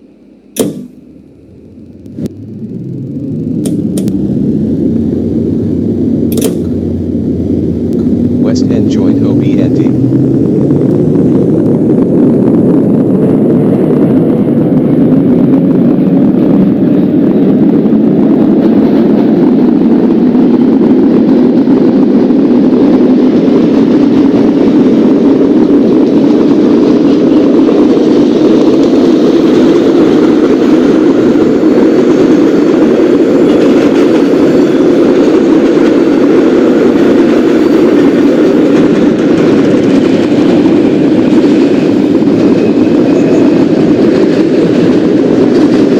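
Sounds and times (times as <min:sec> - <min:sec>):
faint rising whine: 0:00.0 - 0:45.9
subway train rumble: 0:00.0 - 0:45.9.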